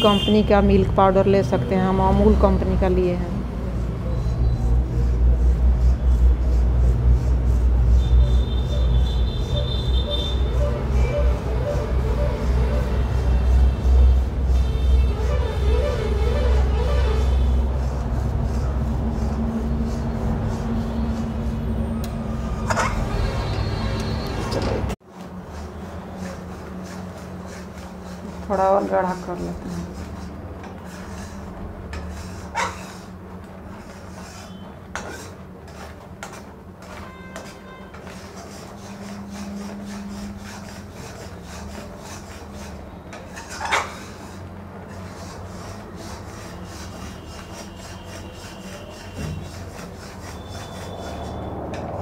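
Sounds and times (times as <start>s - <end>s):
spatula scraping metal pan: 4.2s - 21.9s, 26.2s - 52.0s.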